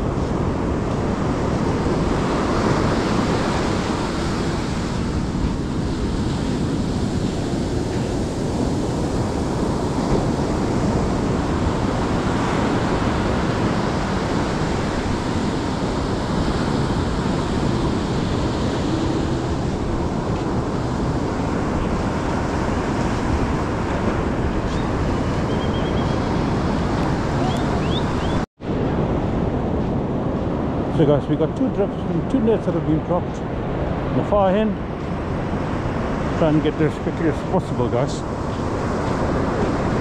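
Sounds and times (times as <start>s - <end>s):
surf breaking on a beach: 0.0s - 40.0s
wind rumbling on microphone: 0.0s - 40.0s.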